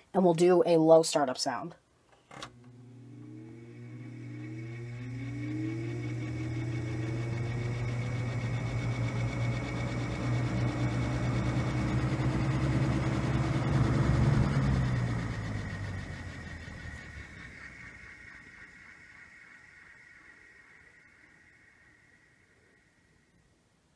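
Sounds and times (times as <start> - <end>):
fan motor hum and whine: 2.3 - 23.4.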